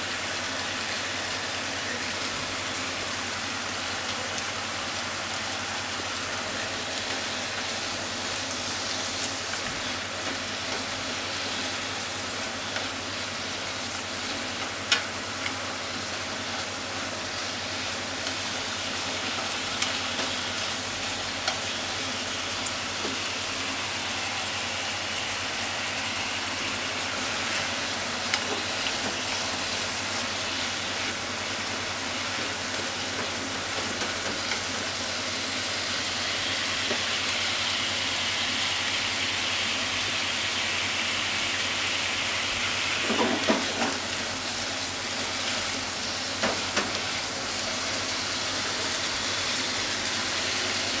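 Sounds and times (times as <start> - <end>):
meat and onions sizzling in a pan: 0.0 - 51.0.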